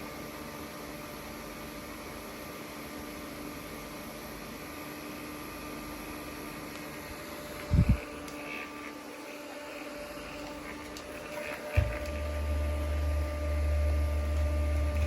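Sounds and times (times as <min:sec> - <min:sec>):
mini fan running: 0:00.0 - 0:15.0.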